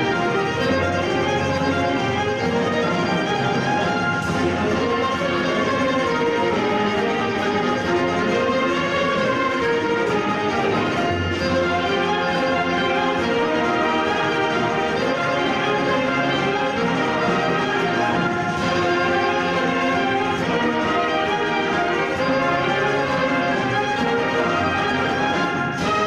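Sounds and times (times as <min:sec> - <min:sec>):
concert band playing: 0:00.0 - 0:26.0
solo violin: 0:00.0 - 0:26.0.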